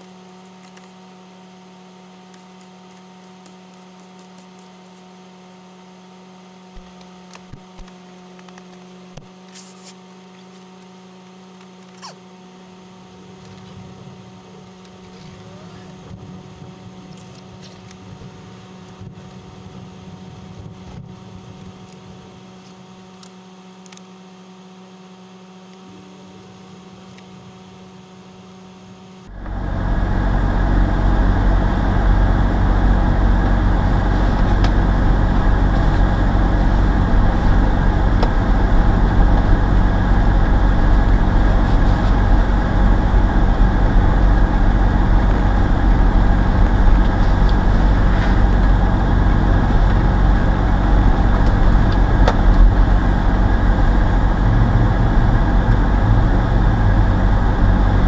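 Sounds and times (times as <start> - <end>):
car engine and tyre rumble: 0.0 - 25.8, 26.5 - 58.0
faint hum: 0.0 - 58.0.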